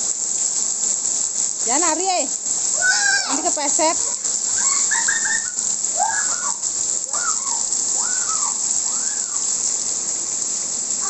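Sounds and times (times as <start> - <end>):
rain hiss: 0.0 - 11.0
running water: 0.0 - 11.0.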